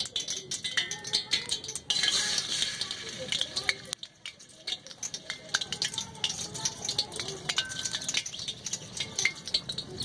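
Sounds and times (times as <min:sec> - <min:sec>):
oil crackling while deep-frying: 0:00.0 - 0:10.0.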